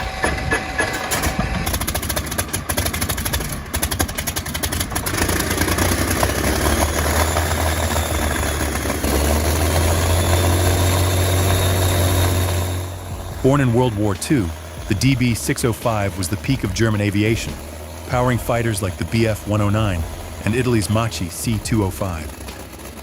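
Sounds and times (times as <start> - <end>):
large engine running: 0.0 - 23.0.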